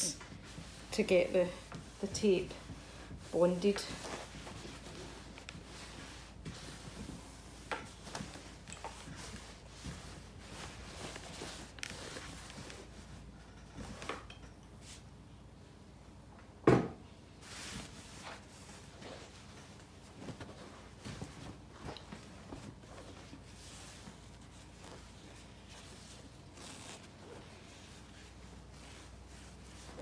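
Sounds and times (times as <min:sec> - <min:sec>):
hand smoothing fabric: 0:00.0 - 0:13.4, 0:17.4 - 0:30.0
fabric rustling: 0:00.0 - 0:15.1, 0:17.4 - 0:30.0.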